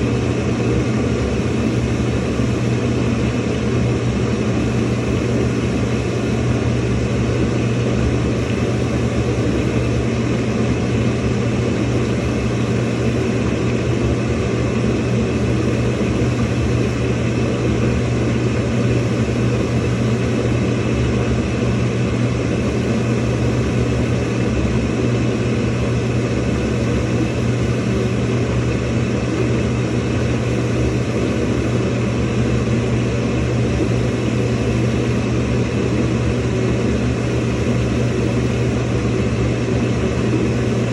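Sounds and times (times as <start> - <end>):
washing machine filling with water: 0.0 - 40.9.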